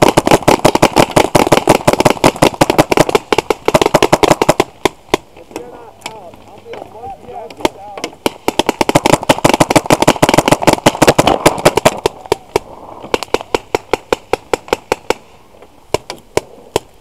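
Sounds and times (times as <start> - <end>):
paintball markers firing: 0.0 - 15.3.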